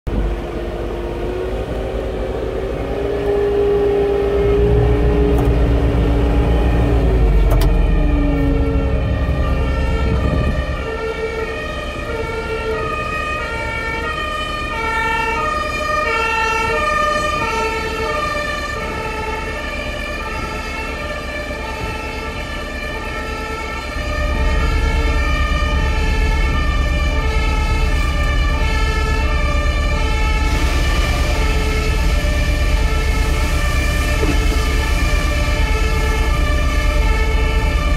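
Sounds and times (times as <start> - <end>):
low rumble: 0.1 - 23.0, 23.8 - 37.9
two-tone emergency siren: 0.2 - 37.9.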